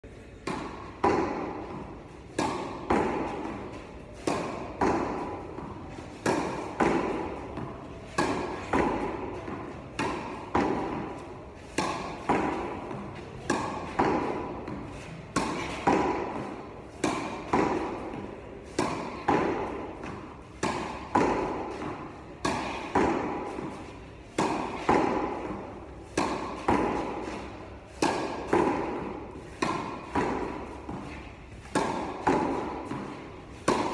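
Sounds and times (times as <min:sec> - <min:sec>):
tennis ball hitting racket and wall: 0:00.3 - 0:33.9.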